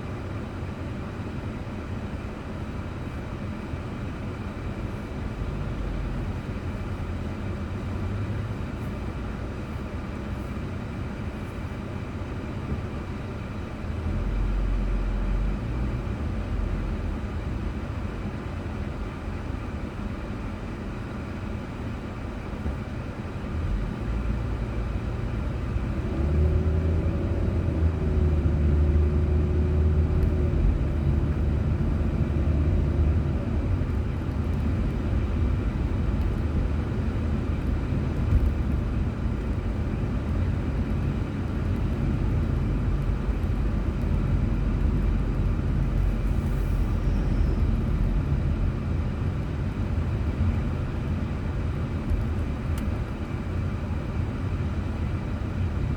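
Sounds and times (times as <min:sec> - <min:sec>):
engine hum: 0:00.0 - 0:55.9
road and engine rumble: 0:00.0 - 0:55.9.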